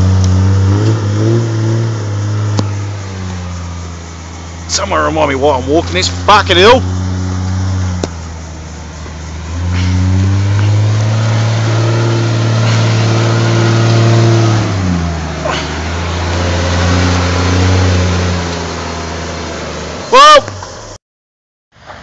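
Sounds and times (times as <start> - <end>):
engine revving under load: 0.0 - 21.0.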